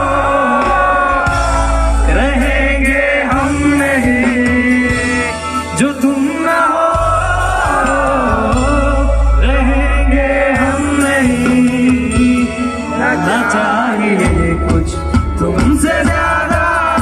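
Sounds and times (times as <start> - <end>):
heavy bass: 0.0 - 17.0
live band music: 0.0 - 17.0
man singing: 0.0 - 17.0.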